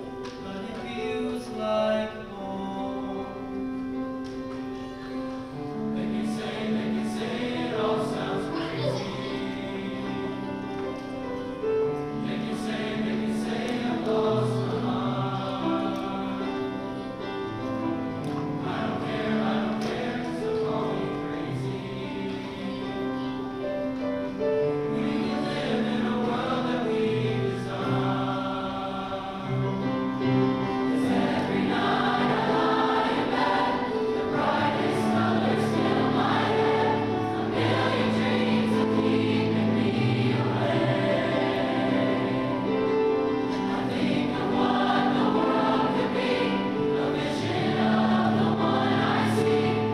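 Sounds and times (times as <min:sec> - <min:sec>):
choir singing in harmony: 0:00.0 - 0:49.9.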